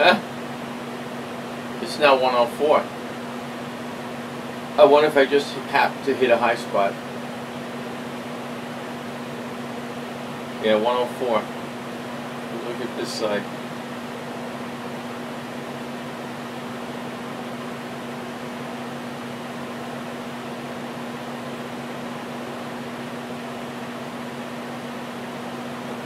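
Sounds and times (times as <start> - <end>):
electric fan running: 0.0 - 26.0.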